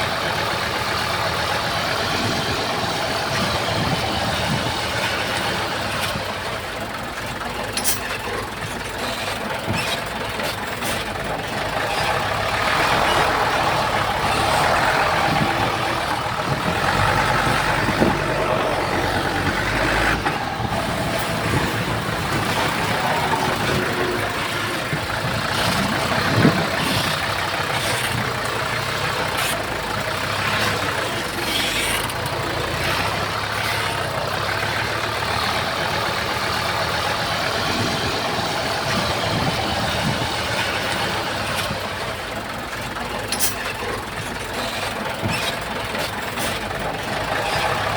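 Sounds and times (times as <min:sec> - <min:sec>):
heavy diesel machines running: 0:00.0 - 0:47.9.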